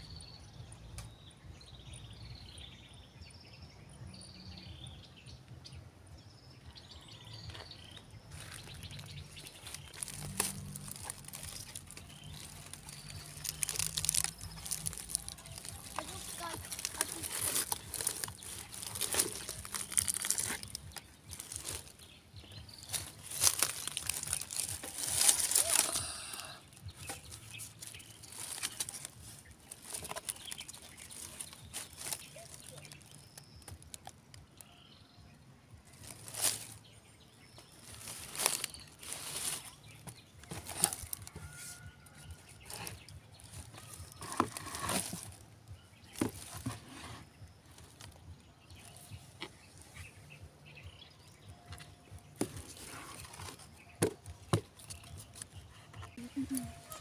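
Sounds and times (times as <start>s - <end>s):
rustling in dry leaves: 7.5s - 34.7s, 35.8s - 57.0s.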